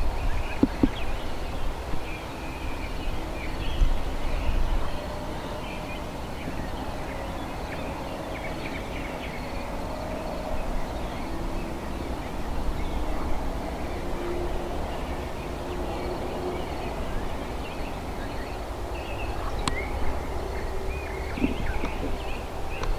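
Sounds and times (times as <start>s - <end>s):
small birds chirping: 0.0s - 22.9s
wind on microphone: 0.0s - 22.9s.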